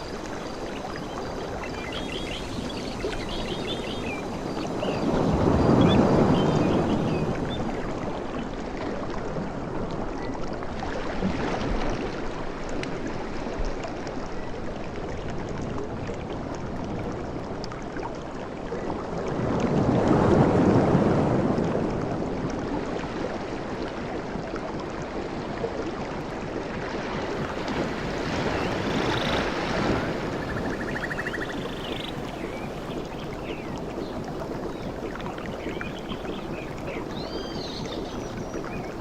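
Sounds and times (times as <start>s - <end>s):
ocean waves washing onto beach: 0.0s - 39.0s.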